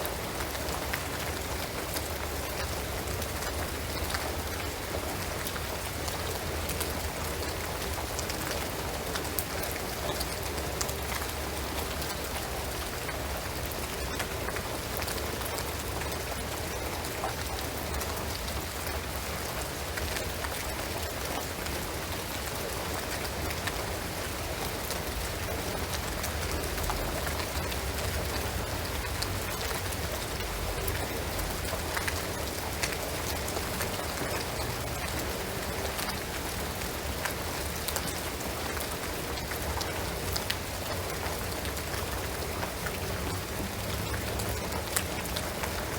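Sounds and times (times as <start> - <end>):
rain on a shingled roof: 0.0 - 45.9.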